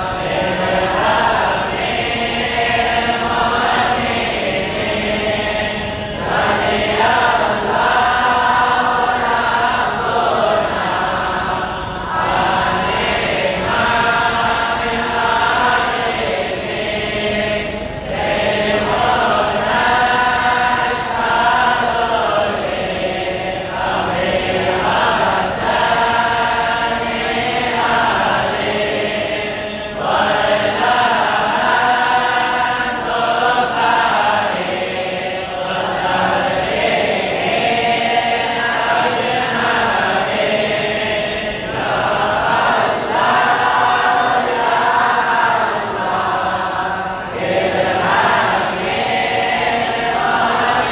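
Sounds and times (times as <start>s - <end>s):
group chanting in unison: 0.0s - 50.9s.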